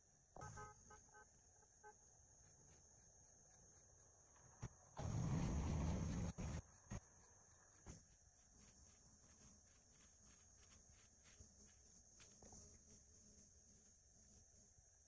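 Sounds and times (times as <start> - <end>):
insects trilling: 0.4 - 15.0.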